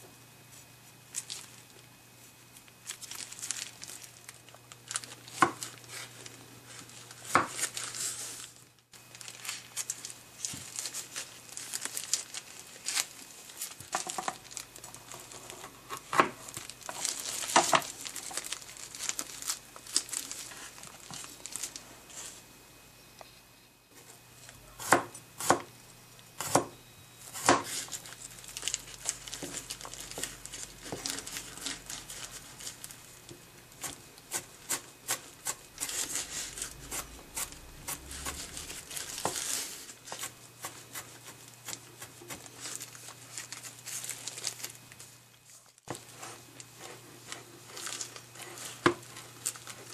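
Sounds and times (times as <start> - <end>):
plastic gloves crinkling: 0.5 - 22.5, 27.2 - 49.9.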